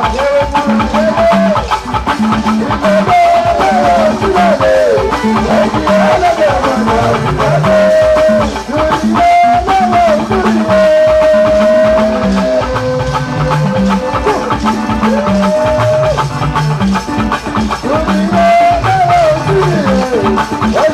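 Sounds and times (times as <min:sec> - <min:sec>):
sliding melody with bass and percussion: 0:00.0 - 0:20.9.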